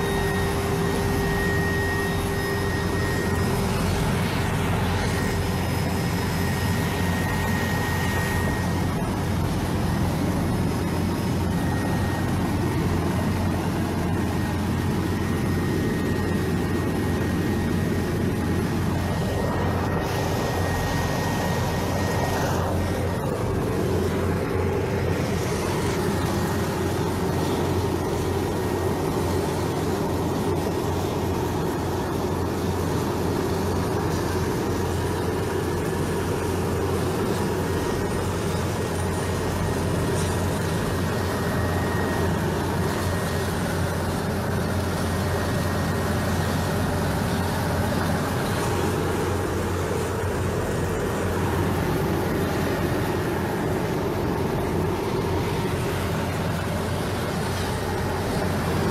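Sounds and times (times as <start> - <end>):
faint high whine: 0.0 - 58.9
helicopter engine and rotor drone: 0.0 - 58.9.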